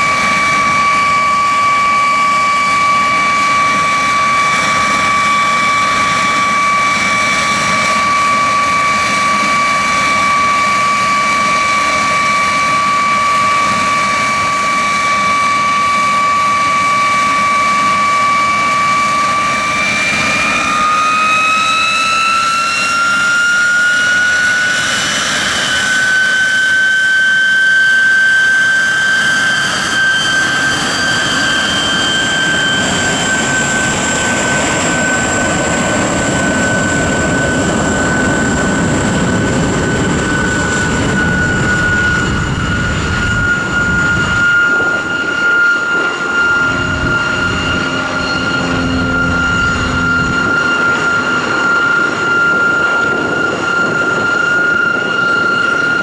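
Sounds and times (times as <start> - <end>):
jet engine rushing roar: 0.0 - 56.0
jet engine whistling whine: 0.0 - 56.0.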